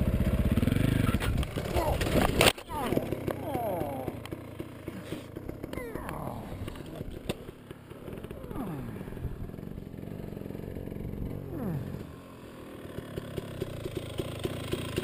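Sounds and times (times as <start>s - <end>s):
dirt bike engine slowing: 0.0s - 15.0s.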